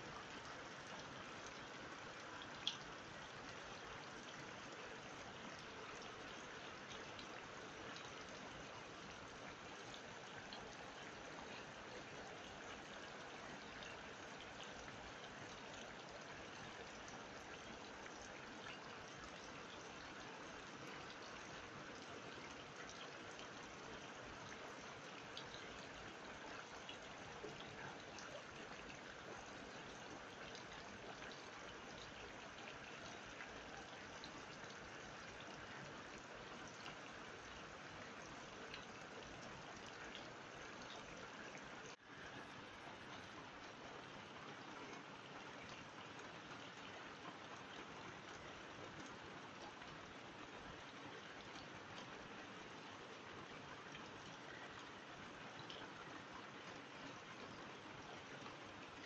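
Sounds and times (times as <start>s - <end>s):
rain falling into puddles: 0.0s - 59.0s.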